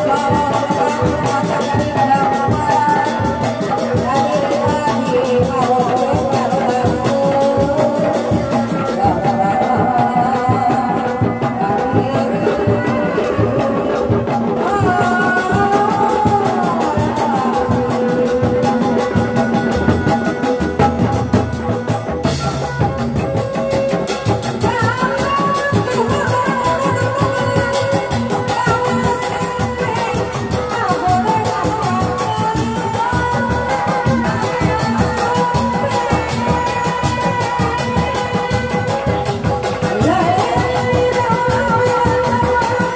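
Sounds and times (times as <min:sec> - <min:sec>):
hand drums beaten: 0:00.0 - 0:42.9.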